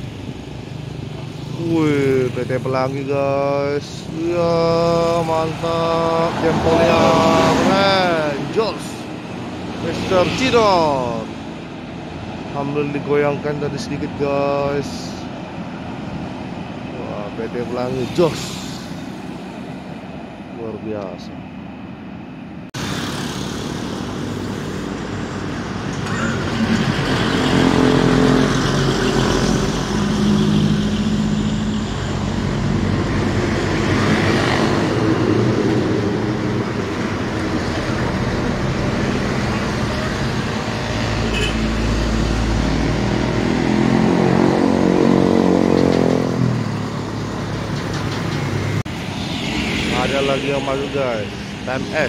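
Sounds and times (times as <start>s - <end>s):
heavy trucks passing: 0.0s - 52.0s.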